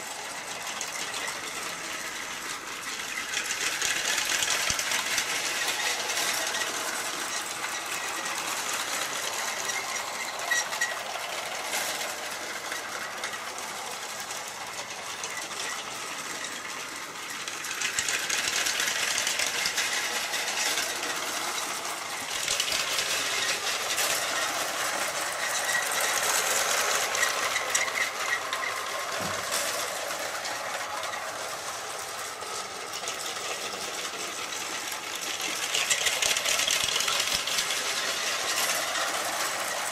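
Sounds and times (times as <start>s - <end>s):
toy train motor whirring: 0.0s - 39.9s
wheels rattling on rails: 0.0s - 39.9s.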